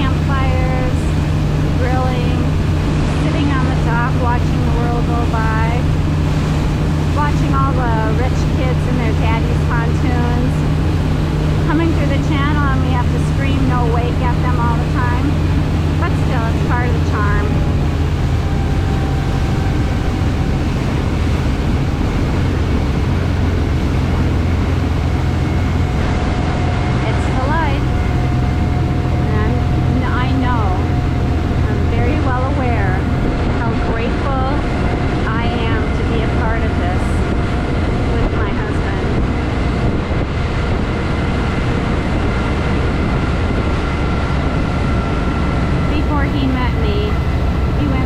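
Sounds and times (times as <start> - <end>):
faint steady whine: 0.0 - 48.0
speedboat motor drone: 0.0 - 48.0.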